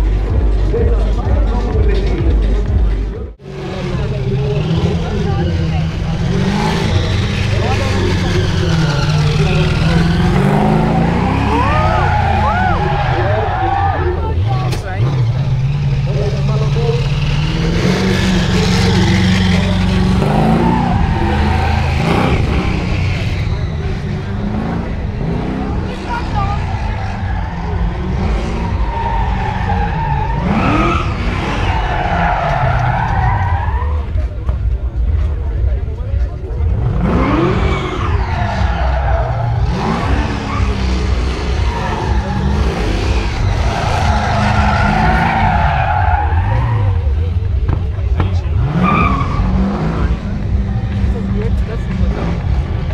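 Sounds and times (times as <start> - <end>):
car engine at high revs: 0.0 - 52.9
tyres squealing: 4.6 - 16.0, 16.7 - 34.3, 36.9 - 52.9.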